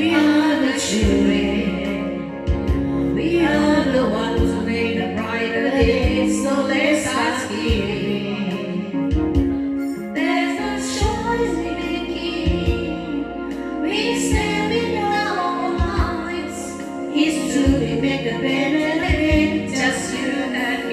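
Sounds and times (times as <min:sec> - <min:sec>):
instrumental accompaniment with bass: 0:00.0 - 0:20.9
woman singing: 0:00.0 - 0:20.9.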